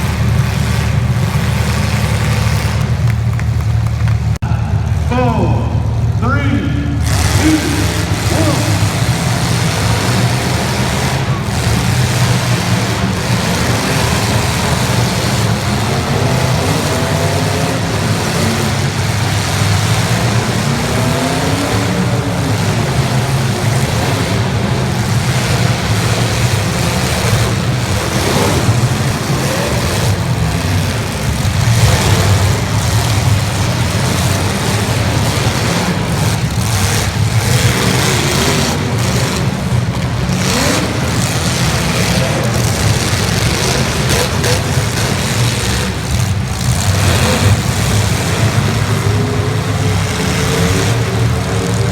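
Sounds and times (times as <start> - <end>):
car engines revving: 0.0 - 51.9
cars crashing bangs: 7.0 - 51.9.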